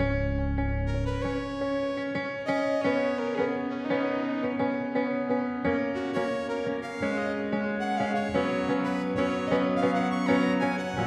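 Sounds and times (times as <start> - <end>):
slow gentle piano: 0.0 - 11.0.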